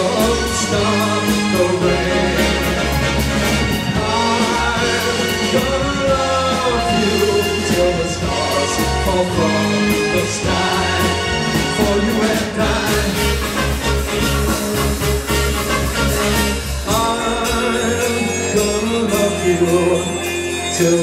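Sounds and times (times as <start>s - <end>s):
bass guitar: 0.0s - 21.0s
bending lead melody: 0.0s - 21.0s
drums: 0.0s - 21.0s
keyboards: 0.0s - 21.0s.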